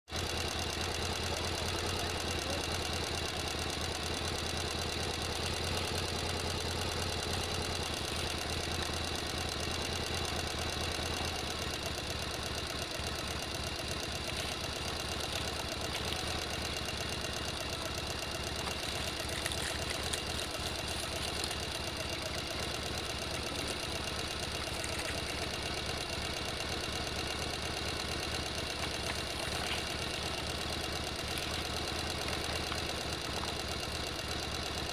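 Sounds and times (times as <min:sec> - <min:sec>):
engine idling with knocking: 0:00.0 - 0:34.9.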